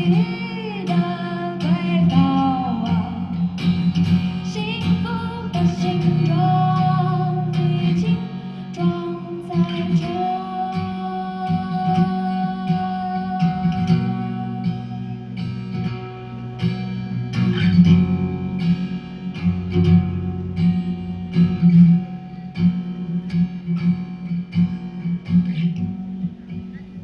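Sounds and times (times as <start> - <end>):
plucked guitar: 0.0 - 27.0.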